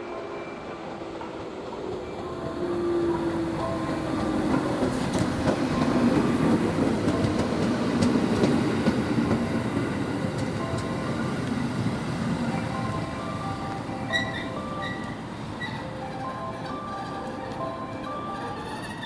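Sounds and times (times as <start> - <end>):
train wheels rumbling past: 0.7 - 19.0.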